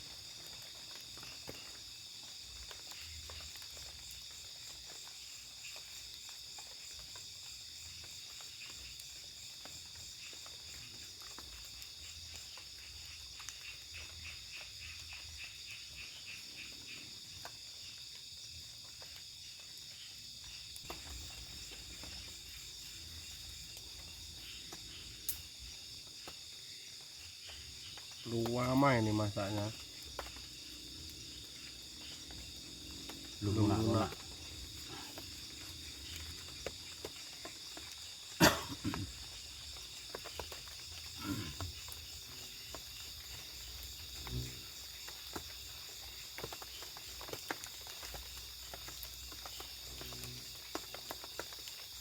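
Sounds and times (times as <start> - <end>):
crickets shrilling: 0.0 - 52.0
rapid insect pulses: 0.0 - 52.0.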